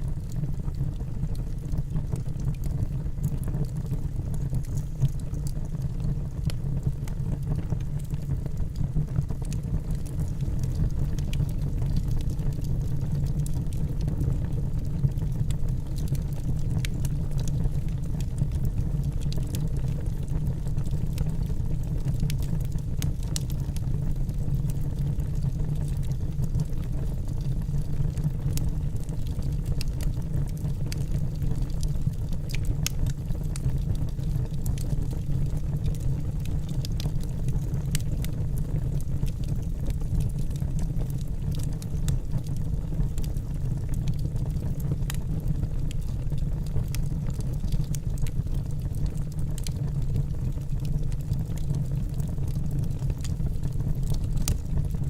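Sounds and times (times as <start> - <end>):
fire rumbling: 0.1 - 55.0
wood crackling and popping: 0.1 - 55.0.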